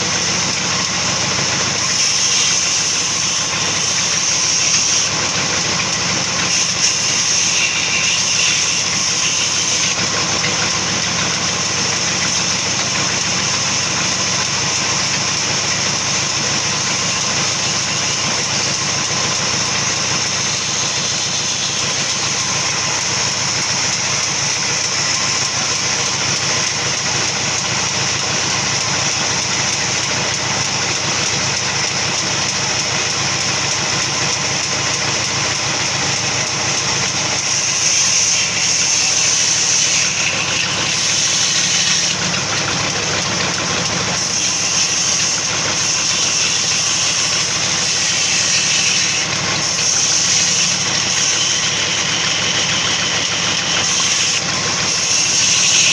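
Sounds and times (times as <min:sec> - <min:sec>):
sawmill machinery running: 0:00.0 - 0:55.9.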